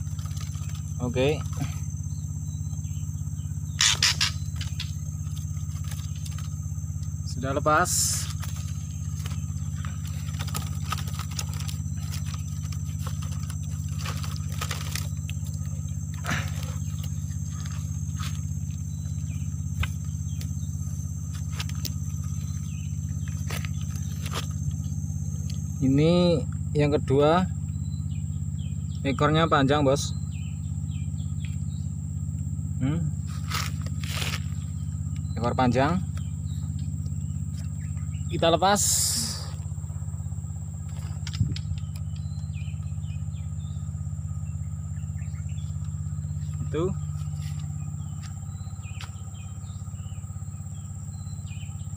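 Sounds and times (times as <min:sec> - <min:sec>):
insects calling in a high tone: 0:00.0 - 0:51.9
low pulsing drone: 0:00.0 - 0:51.9
throbbing engine hum: 0:00.0 - 0:51.9.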